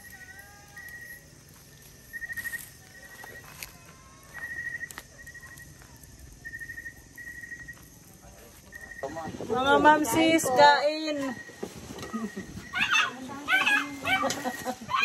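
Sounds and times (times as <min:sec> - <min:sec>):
campfire popping: 0:00.0 - 0:15.0
crickets chirping: 0:00.0 - 0:15.0.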